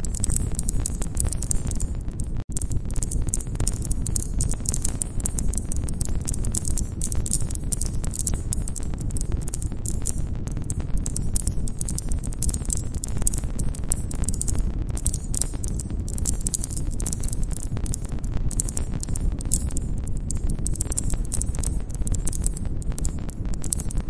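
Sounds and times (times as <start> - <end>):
low rumble of burning fire: 0.0 - 24.0.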